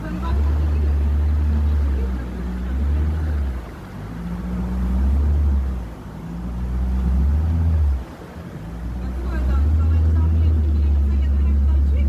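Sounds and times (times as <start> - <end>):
motorboat engine: 0.0 - 12.0.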